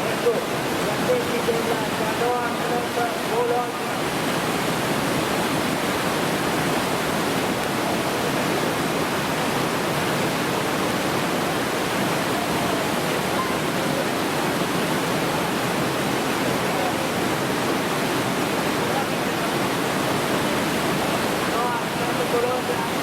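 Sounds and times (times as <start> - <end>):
whitewater rushing through rapids: 0.0 - 23.0.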